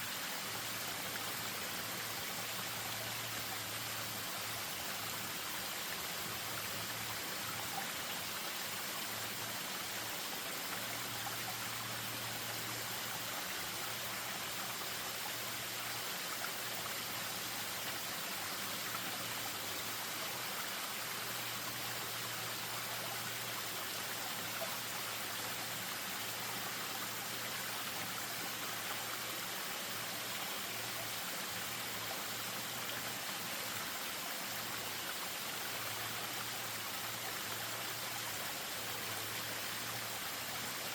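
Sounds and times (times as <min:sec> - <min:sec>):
stream over small waterfall: 0:00.0 - 0:40.9.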